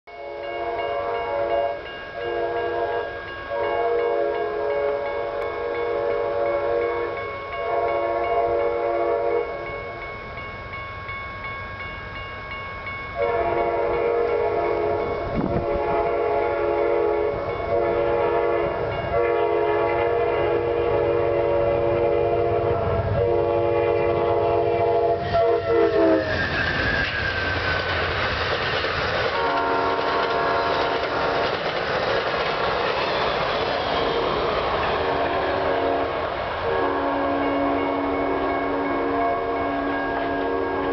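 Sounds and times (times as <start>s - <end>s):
train horn blasts: 0.1s - 10.0s, 13.2s - 27.1s, 29.3s - 31.2s, 33.8s - 40.9s
train cars rumbling and clacking: 0.4s - 40.9s.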